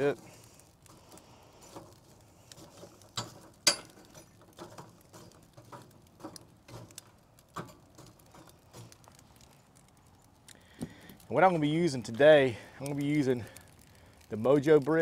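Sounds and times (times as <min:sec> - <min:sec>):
charcoal clinking and rattling: 0:00.0 - 0:15.0.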